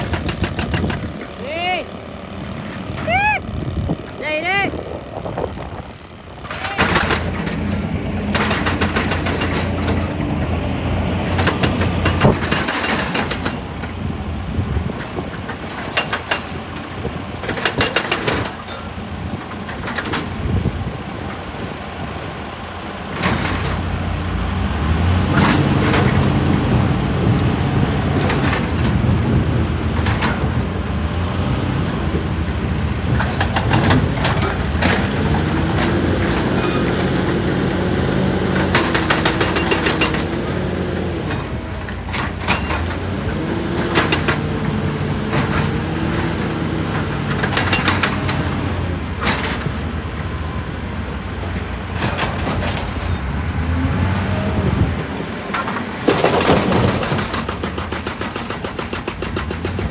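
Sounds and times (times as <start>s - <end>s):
metallic clanks and knocks: 0.0s - 1.4s, 6.4s - 21.8s, 23.0s - 50.5s, 51.5s - 53.4s, 55.4s - 59.9s
diesel excavator engine running: 0.0s - 59.9s.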